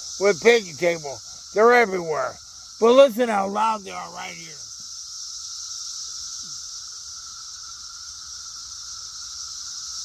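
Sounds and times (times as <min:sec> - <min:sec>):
cicadas chorus: 0:00.0 - 0:10.0.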